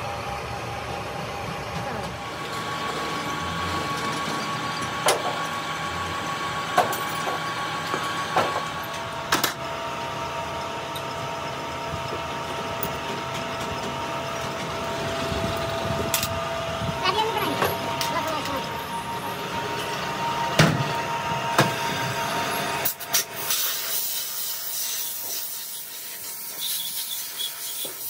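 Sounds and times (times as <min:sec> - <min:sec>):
factory machinery whine: 0:00.0 - 0:28.0.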